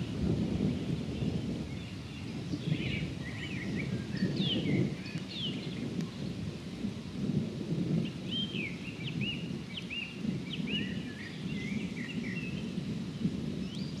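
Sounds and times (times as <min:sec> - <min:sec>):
distant thunder rumbling: 0:00.0 - 0:14.0.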